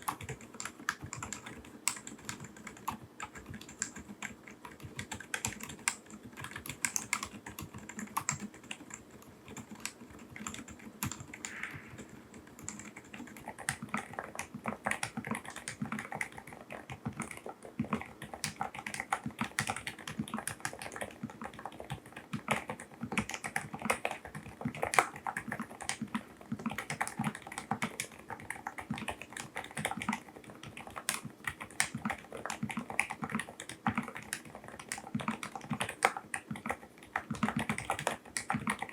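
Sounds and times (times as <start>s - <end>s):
soft muted keyboard typing: 0.0s - 38.9s.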